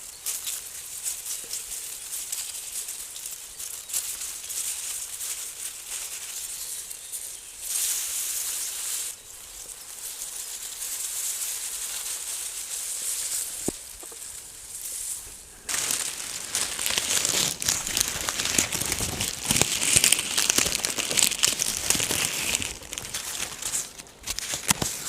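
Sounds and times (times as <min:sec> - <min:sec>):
rustling and scratching dry material: 0:00.0 - 0:25.0.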